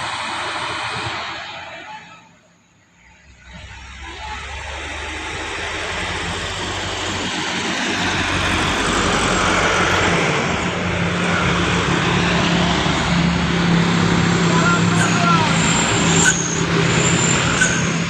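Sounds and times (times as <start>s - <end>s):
heavy truck engine running: 0.0s - 18.0s
road noise: 0.0s - 18.0s.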